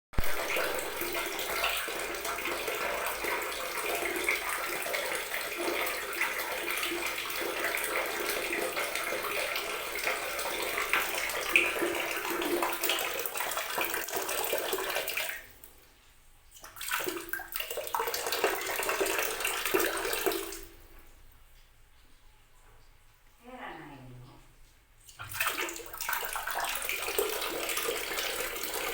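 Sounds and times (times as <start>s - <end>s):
water running: 0.2s - 28.9s.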